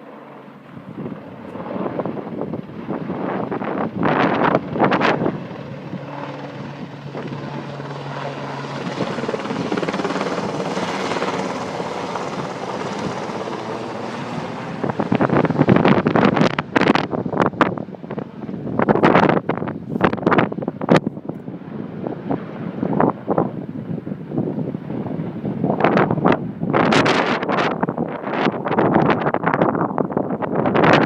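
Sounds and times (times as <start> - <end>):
helicopter droning: 0.0 - 31.0
wind buffeting microphone: 0.6 - 31.0.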